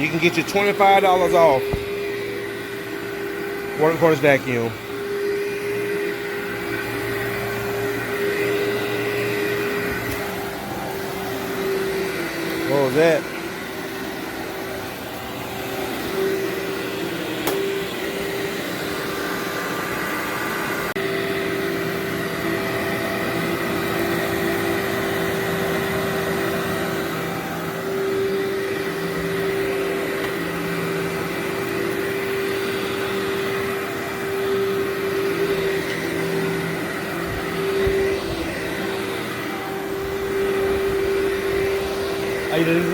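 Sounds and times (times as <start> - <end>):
vacuum cleaner running on carpet: 0.0 - 42.9.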